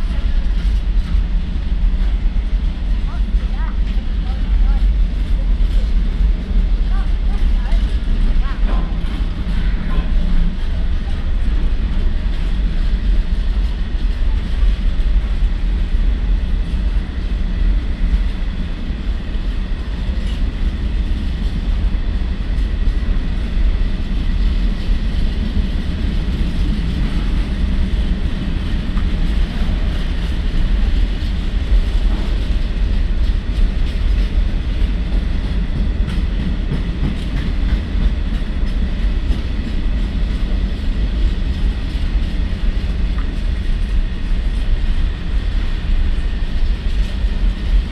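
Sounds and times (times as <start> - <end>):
train wheels running on rails: 0.0 - 47.9.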